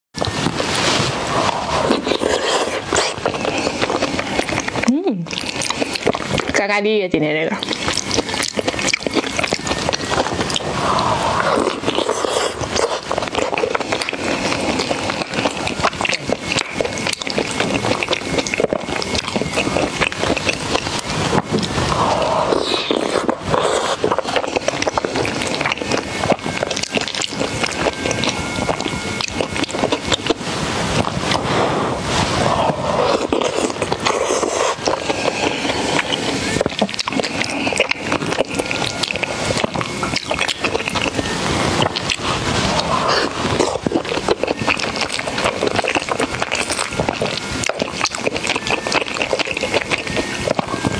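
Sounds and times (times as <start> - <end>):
slurp: 0.2 - 6.6, 7.6 - 50.9
chewing crunchy food: 0.2 - 50.9.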